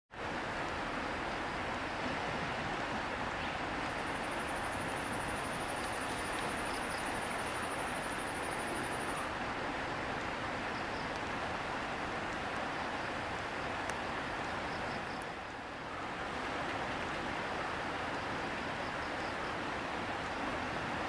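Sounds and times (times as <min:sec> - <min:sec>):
river flowing over stones: 0:00.1 - 0:21.0.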